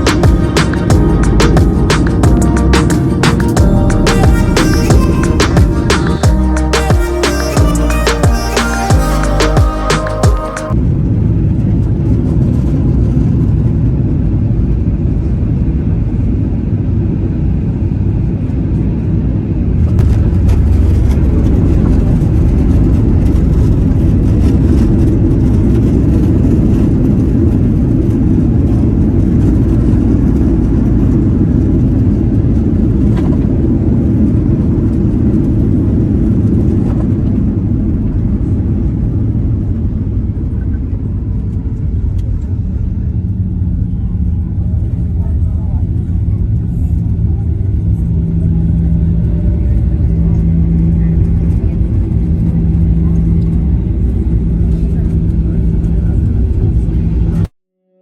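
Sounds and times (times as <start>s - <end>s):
vehicle rumbling in motion: 0.0s - 15.6s, 19.3s - 57.5s.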